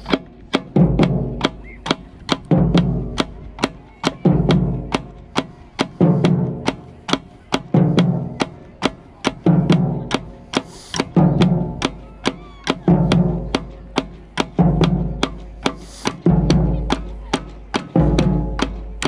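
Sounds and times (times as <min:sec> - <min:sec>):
marching band playing: 0:00.0 - 0:19.0
marching snare drum: 0:00.0 - 0:19.0.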